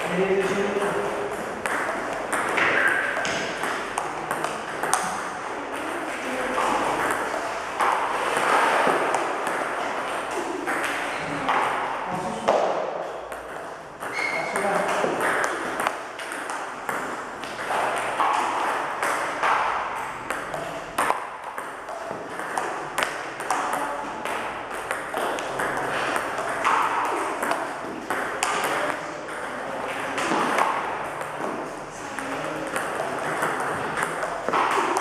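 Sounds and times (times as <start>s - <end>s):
table tennis balls clicking: 0.0s - 35.0s.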